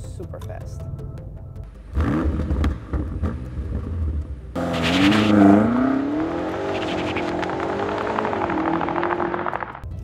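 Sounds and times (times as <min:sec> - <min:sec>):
car engine revving: 0:01.8 - 0:09.8.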